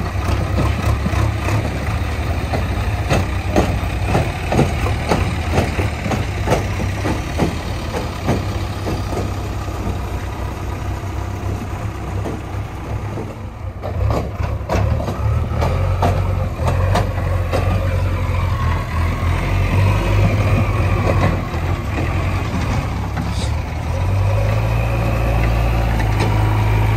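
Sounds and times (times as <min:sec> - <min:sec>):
diesel engine running: 0:00.0 - 0:26.9
clanks and rattles: 0:00.2 - 0:18.5, 0:19.6 - 0:24.6.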